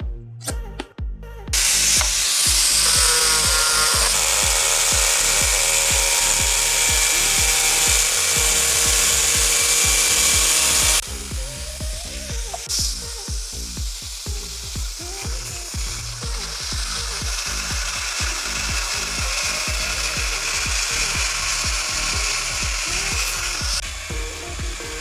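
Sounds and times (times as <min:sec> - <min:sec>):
background music with steady beat: 0:00.0 - 0:25.0
power tool running under load: 0:01.5 - 0:25.0.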